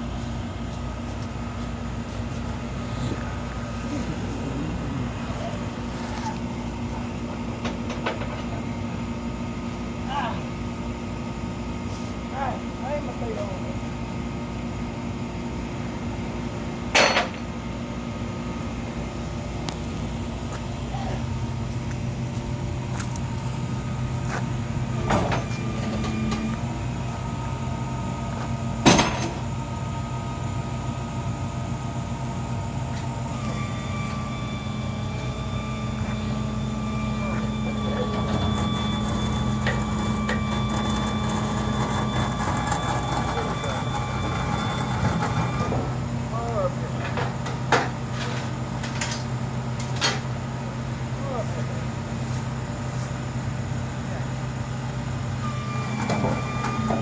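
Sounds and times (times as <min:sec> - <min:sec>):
vehicle engine running: 0:00.0 - 0:46.8.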